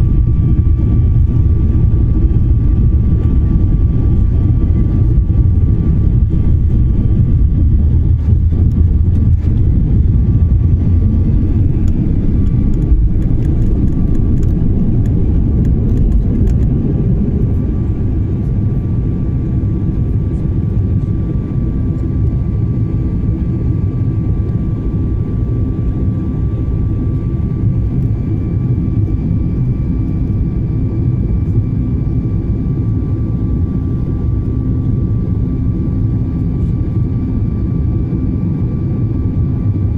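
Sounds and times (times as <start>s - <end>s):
jet engine rumble: 0.0s - 39.9s
jet engine whine: 0.0s - 39.9s.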